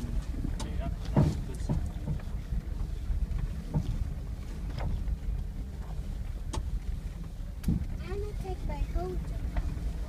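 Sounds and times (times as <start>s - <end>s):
knocks and rattles over bumps: 0.0s - 10.0s
off-road vehicle rumbling: 0.0s - 10.0s.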